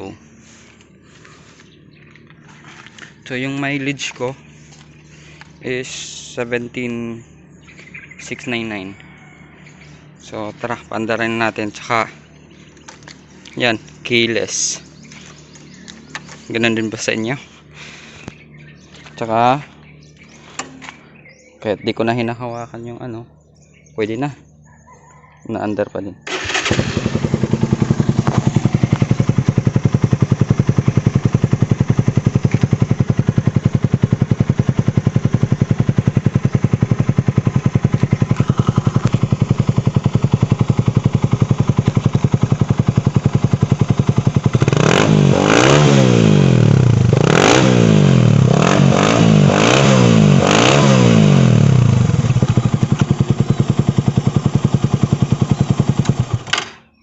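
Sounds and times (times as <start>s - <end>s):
motorcycle engine revving: 0.0s - 22.0s, 26.2s - 56.6s.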